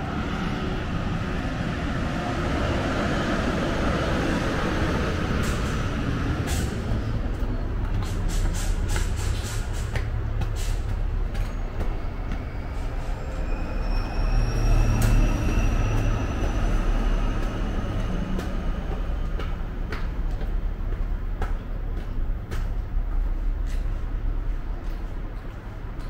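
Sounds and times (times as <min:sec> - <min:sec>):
train rumbling by: 0:00.0 - 0:26.0.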